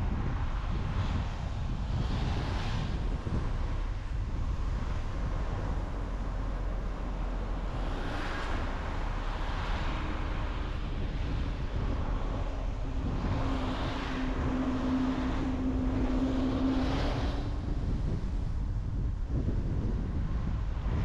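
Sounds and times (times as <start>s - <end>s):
tyre and wind noise: 0.0s - 21.0s.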